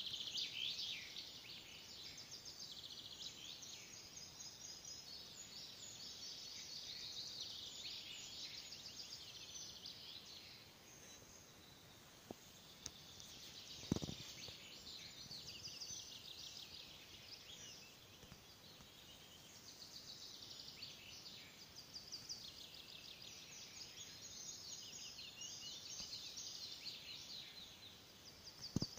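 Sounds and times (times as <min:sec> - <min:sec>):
songbirds singing: 0:00.0 - 0:28.9.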